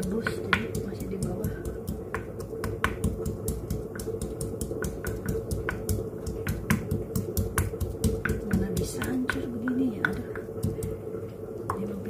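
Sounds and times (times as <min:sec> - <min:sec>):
pestle pounding in ceramic mortar: 0:00.0 - 0:11.0.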